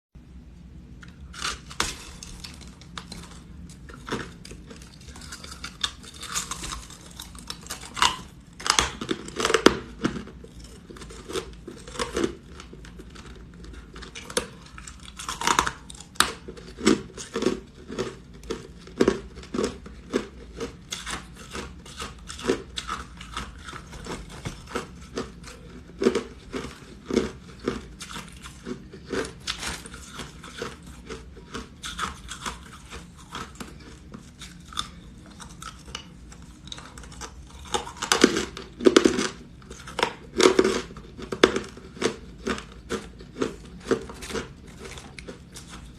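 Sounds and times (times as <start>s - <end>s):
ice being chewed: 1.0s - 45.9s.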